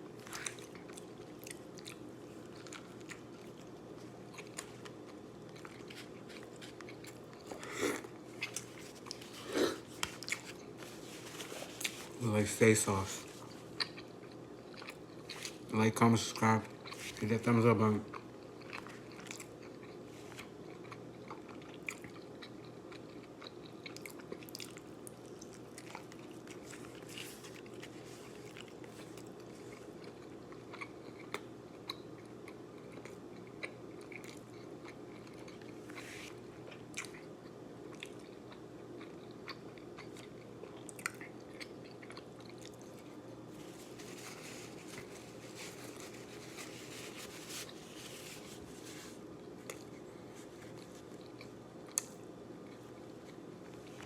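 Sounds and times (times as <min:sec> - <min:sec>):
steady low hum: 0:00.0 - 0:54.0
person chewing food: 0:00.2 - 0:12.2, 0:13.2 - 0:15.7, 0:16.8 - 0:17.2, 0:18.1 - 0:54.0.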